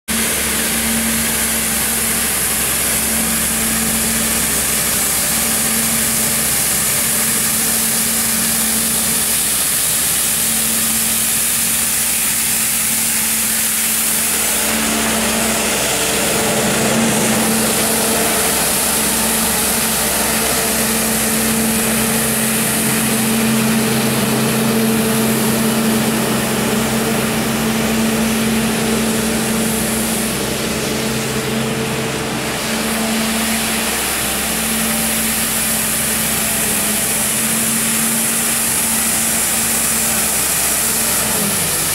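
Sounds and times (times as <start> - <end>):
street sweeper engine hum: 0.1 - 41.9.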